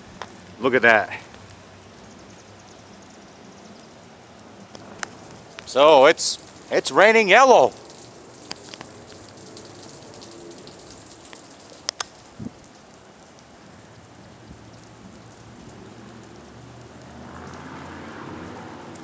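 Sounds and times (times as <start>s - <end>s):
light rain on pavement: 0.0s - 19.0s.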